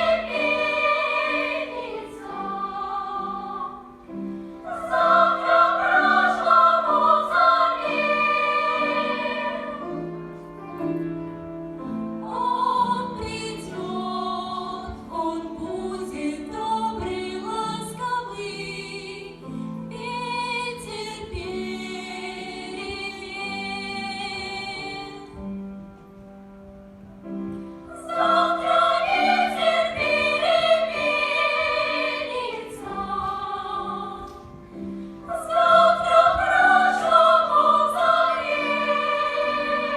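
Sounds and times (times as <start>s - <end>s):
choir singing with accompaniment: 0.0s - 10.8s, 11.8s - 25.4s, 27.8s - 39.9s.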